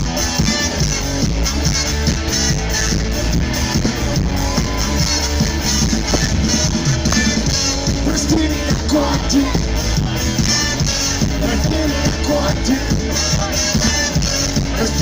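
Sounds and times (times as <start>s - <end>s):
heavy bass: 0.0s - 15.0s
live band playing loud music: 0.0s - 15.0s.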